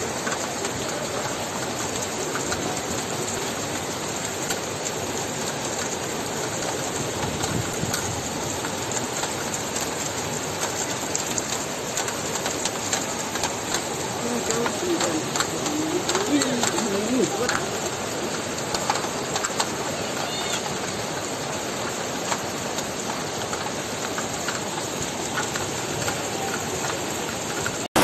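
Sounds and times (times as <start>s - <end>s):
fast-flowing floodwater: 0.0s - 28.0s
heavy rain: 0.0s - 28.0s.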